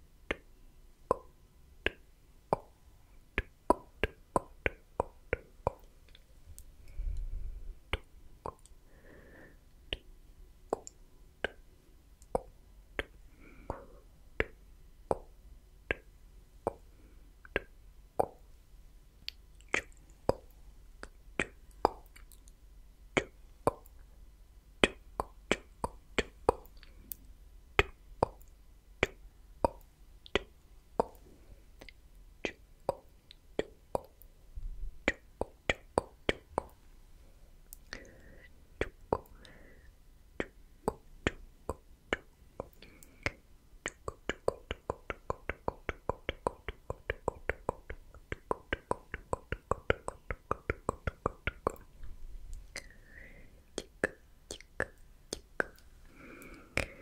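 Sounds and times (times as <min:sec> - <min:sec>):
tongue clicks and lip pops: 0:00.3 - 0:00.5, 0:01.1 - 0:02.8, 0:03.4 - 0:07.3, 0:07.9 - 0:08.8, 0:09.9 - 0:10.1, 0:10.7 - 0:18.5, 0:19.2 - 0:22.6, 0:23.2 - 0:24.1, 0:24.8 - 0:34.3, 0:35.0 - 0:36.8, 0:37.6 - 0:39.6, 0:40.4 - 0:57.0
soft breathy sounds: 0:00.3 - 0:57.0.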